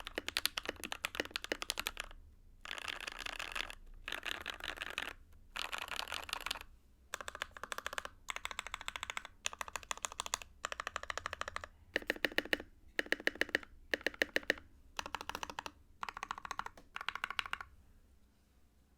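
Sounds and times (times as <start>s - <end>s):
fast mechanical keyboard typing: 0.0s - 17.7s.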